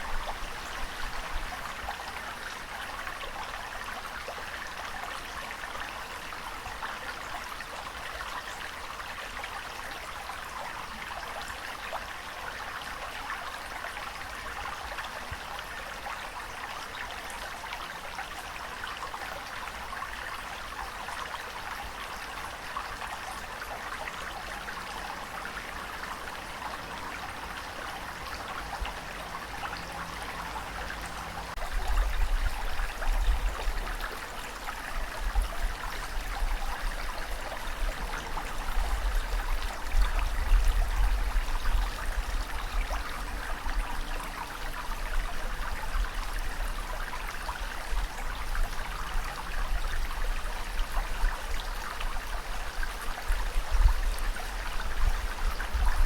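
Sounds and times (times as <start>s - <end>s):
rushing and trickling water: 0.0s - 56.0s.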